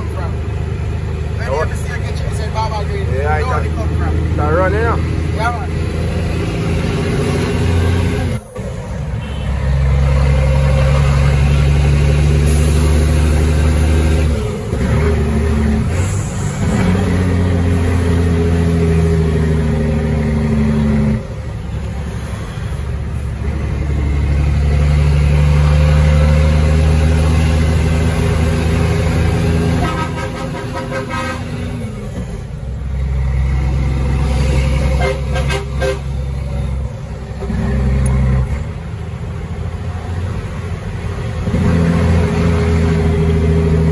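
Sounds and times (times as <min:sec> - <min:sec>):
diesel truck engine droning: 0:00.0 - 0:43.9.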